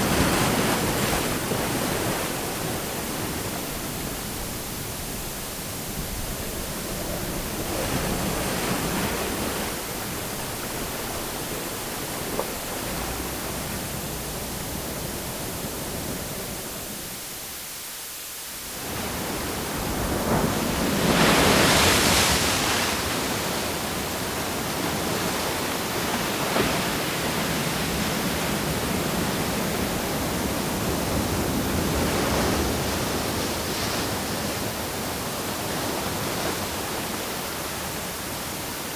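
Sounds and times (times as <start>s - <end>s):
waves washing onto shore: 0.0s - 38.9s.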